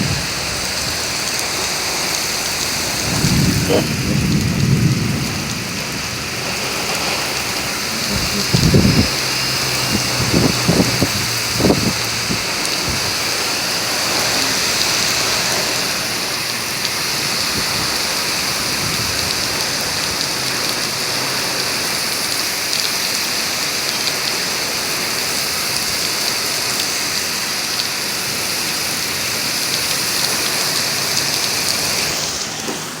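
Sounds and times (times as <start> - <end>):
heavy rain pouring: 0.0 - 33.0
wind: 0.0 - 33.0.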